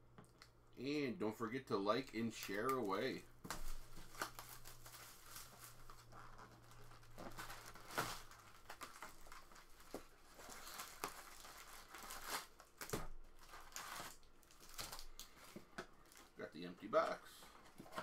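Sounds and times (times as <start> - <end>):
plastic wrap crinkling and tearing: 1.9 - 16.4
foil packs rustling: 2.3 - 18.0.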